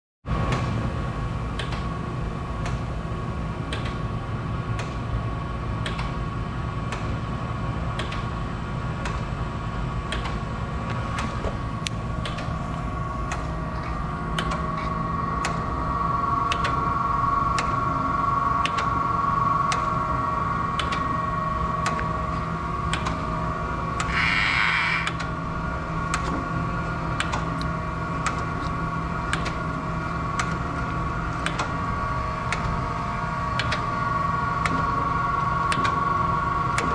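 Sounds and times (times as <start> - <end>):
grinder machine hum and whine: 0.3 - 36.9.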